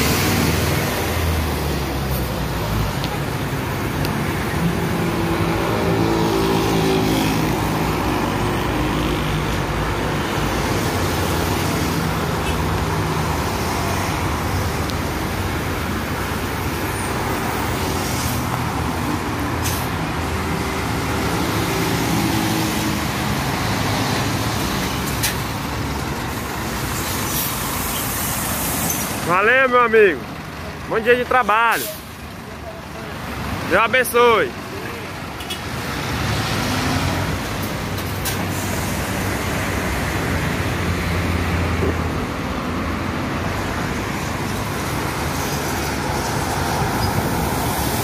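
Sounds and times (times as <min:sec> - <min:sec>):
bus diesel engine: 0:00.0 - 0:48.0
vehicles driving past: 0:00.0 - 0:48.0.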